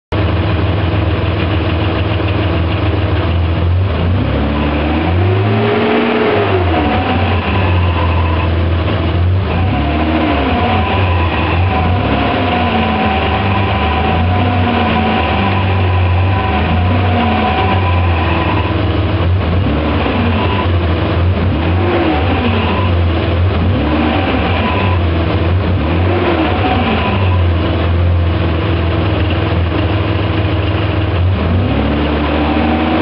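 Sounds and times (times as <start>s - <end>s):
car engine running: 0.1s - 33.0s
gearbox whine: 0.2s - 33.0s.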